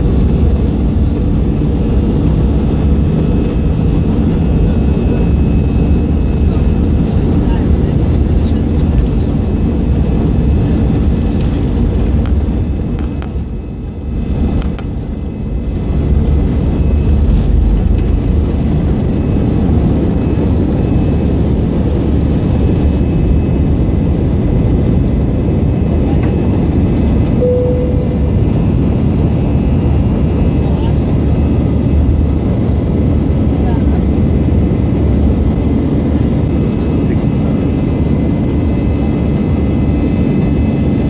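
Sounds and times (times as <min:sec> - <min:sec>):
jet engines roaring at takeoff: 0:00.0 - 0:41.0.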